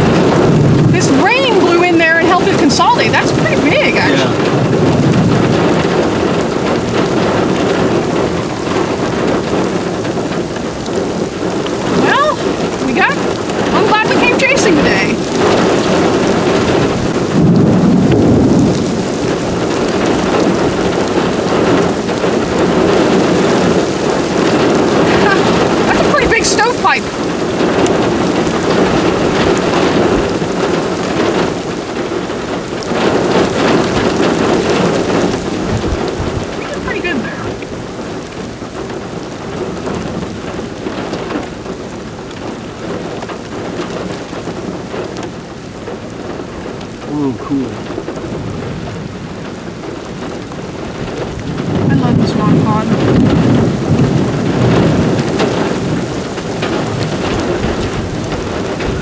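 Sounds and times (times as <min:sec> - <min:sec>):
heavy rain: 0:00.0 - 0:59.0
thunder rumbling: 0:00.0 - 0:59.0.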